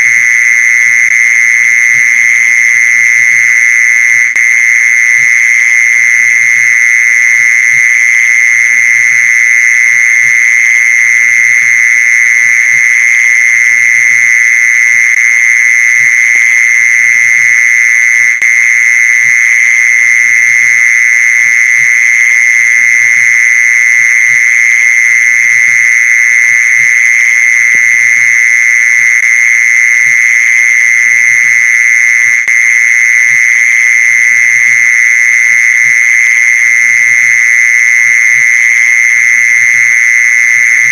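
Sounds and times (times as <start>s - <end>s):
mole cricket trill: 0.0s - 40.9s.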